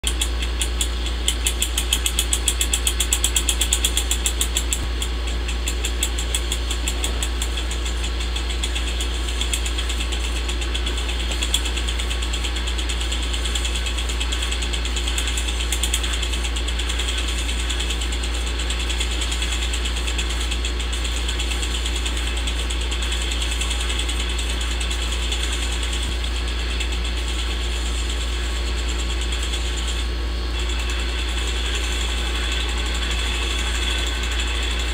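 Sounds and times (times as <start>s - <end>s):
film projector running: 0.0s - 34.9s.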